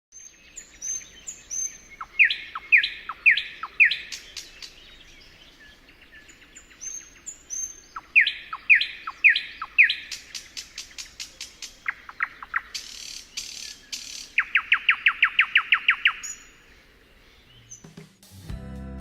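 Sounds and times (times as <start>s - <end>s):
songbird singing: 0.1s - 18.0s.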